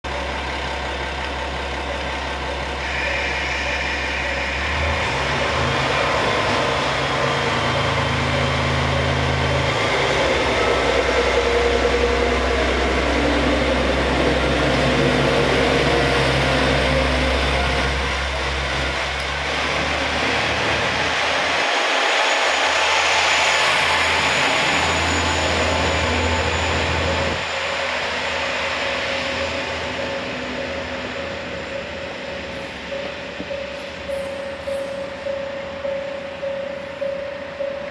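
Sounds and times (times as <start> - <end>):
diesel engine drone: 0.1 - 37.8
moving train rushing hiss: 0.3 - 37.9.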